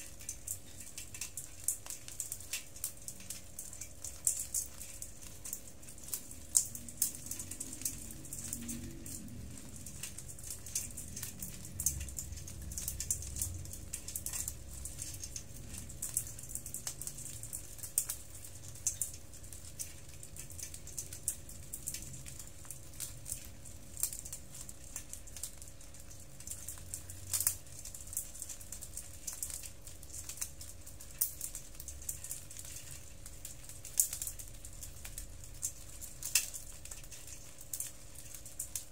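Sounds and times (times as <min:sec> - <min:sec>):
crab shells clicking and tapping: 0:00.0 - 0:38.9.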